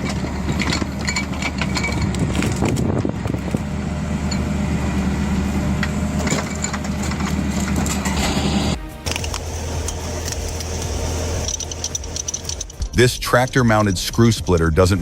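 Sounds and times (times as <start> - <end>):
wood splitter engine running: 0.0 - 12.8.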